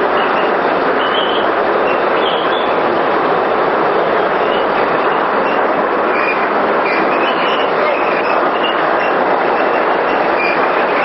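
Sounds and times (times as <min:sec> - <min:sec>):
hydro turbine rushing: 0:00.0 - 0:11.0
water pouring through pipe: 0:00.0 - 0:11.0.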